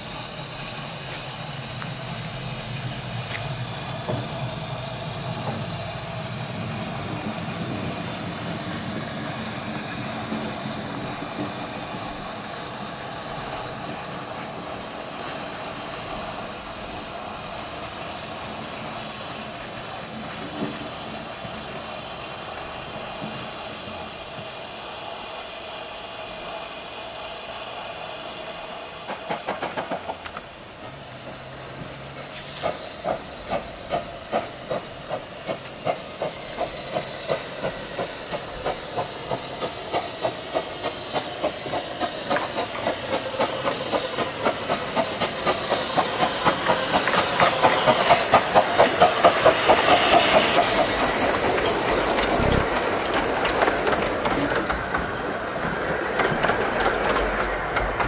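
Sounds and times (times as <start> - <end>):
carriages rail clatter: 0.0 - 24.7, 28.4 - 58.0
steam hissing: 0.0 - 58.0
steam locomotive exhaust chuffs: 0.0 - 58.0.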